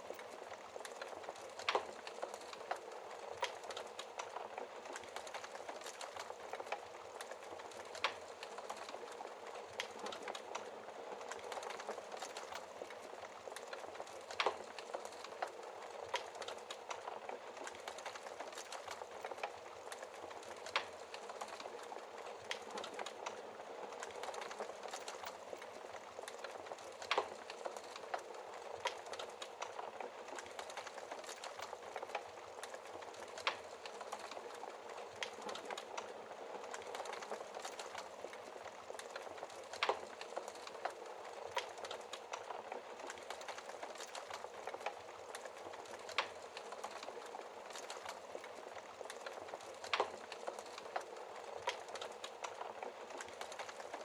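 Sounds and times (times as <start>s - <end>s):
wood fire crackling: 0.0s - 54.0s
fire popping: 0.2s - 53.9s.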